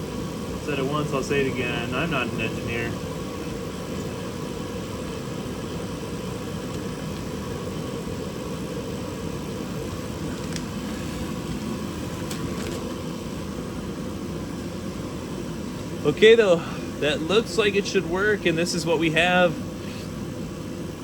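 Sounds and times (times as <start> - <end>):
machine drone: 0.0 - 21.0.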